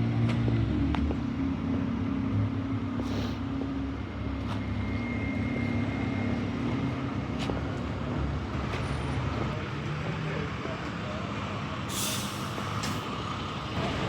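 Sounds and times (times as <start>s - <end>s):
street noise: 0.0s - 14.0s.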